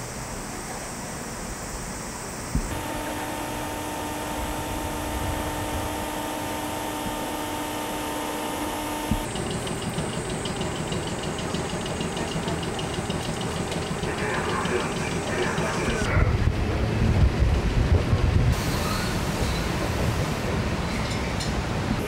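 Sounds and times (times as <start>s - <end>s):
rail noise: 0.0s - 22.0s
train car running hum: 0.0s - 22.0s.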